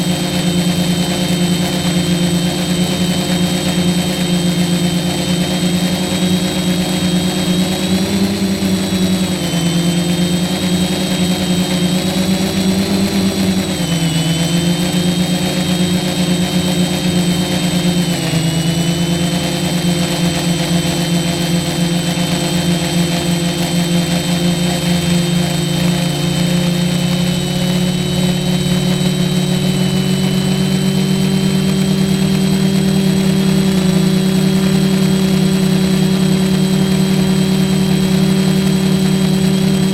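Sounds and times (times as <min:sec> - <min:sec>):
quadcopter motors humming: 0:00.0 - 0:39.9.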